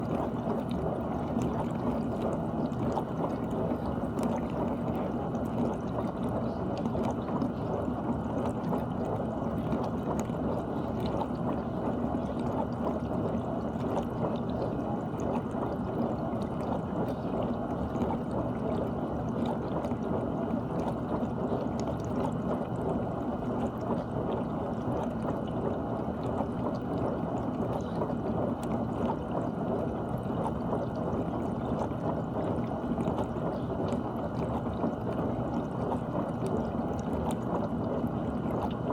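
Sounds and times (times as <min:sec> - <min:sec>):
dishwasher pump hum: 0:00.0 - 0:38.9.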